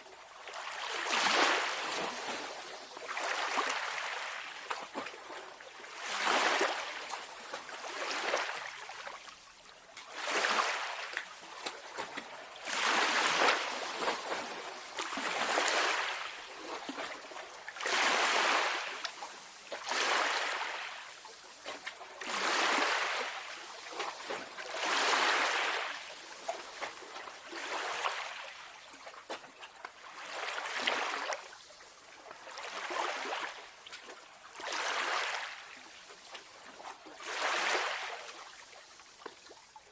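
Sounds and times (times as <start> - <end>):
small waves washing ashore: 0.5 - 9.2, 10.1 - 28.8, 30.0 - 31.6, 32.3 - 38.5.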